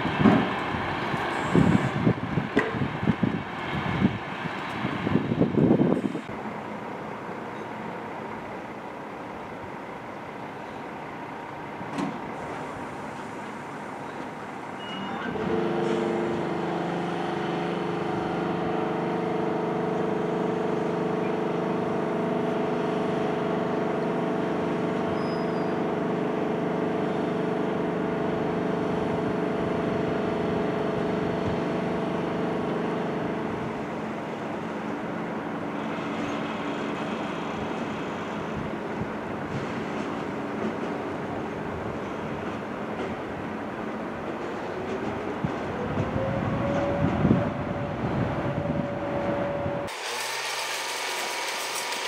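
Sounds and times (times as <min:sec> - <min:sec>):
locomotive rumble: 0:00.0 - 0:50.0.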